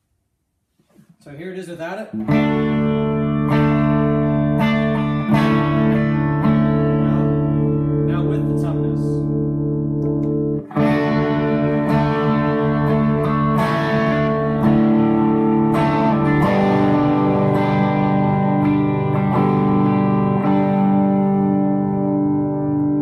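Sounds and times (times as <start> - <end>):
electric guitar chords strummed: 2.1 - 23.0.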